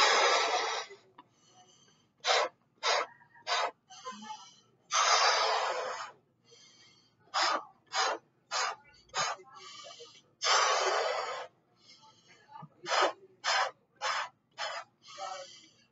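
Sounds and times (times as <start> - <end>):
breath blown into balloon: 0.0 - 1.0, 2.2 - 12.0, 12.9 - 15.6
sharp breaths drawn in: 0.0 - 15.9.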